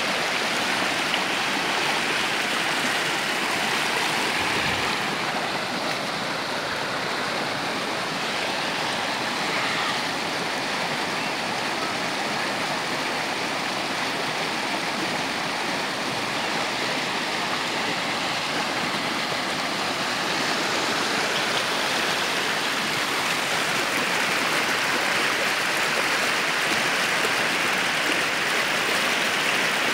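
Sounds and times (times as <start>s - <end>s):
water rushing down creek: 0.0s - 29.9s.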